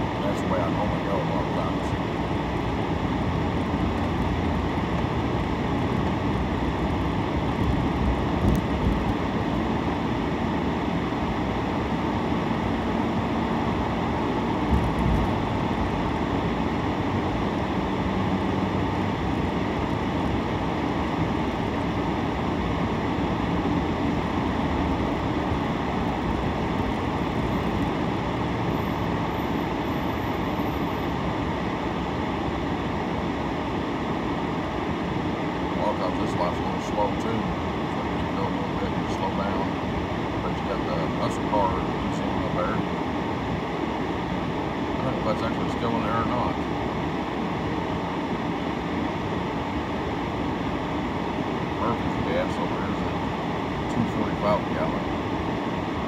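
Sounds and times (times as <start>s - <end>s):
car engine hum: 0.0s - 56.0s
road and tyre noise: 0.0s - 56.0s.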